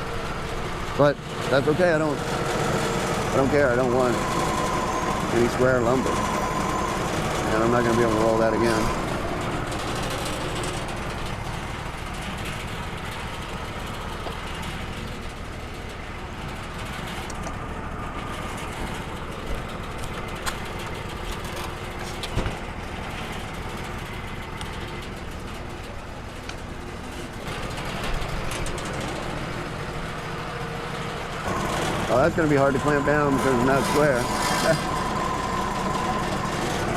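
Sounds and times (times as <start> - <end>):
sawmill engine running: 0.0 - 36.9.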